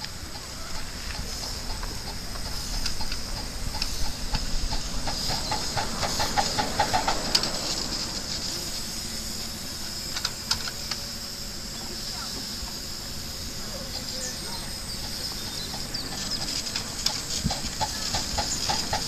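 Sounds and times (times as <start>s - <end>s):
steam exhaust chuffs: 0.0s - 19.0s
steam hissing: 0.0s - 19.0s.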